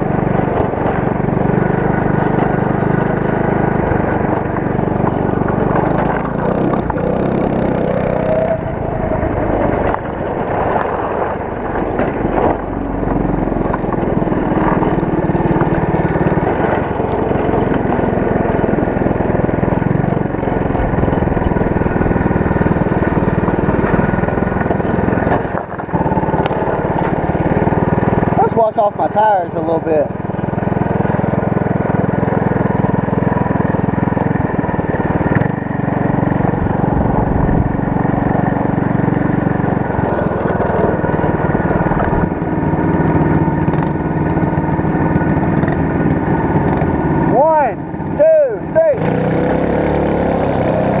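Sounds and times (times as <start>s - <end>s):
go-kart engine running: 0.0s - 51.0s.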